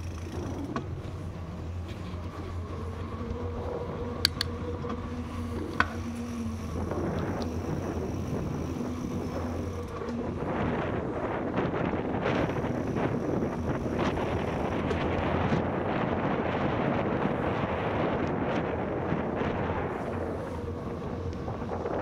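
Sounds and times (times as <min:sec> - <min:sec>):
bicycle tyre noise on paving: 0:00.0 - 0:22.0
wind on microphone: 0:00.0 - 0:22.0.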